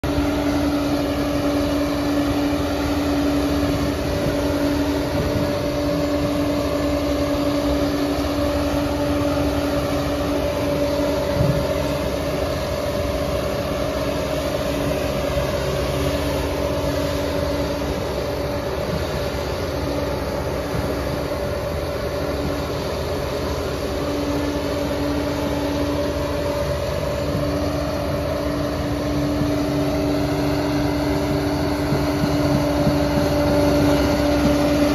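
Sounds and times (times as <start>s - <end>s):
bulldozer engine drone: 0.0s - 34.9s
steady machine whine: 0.0s - 34.9s.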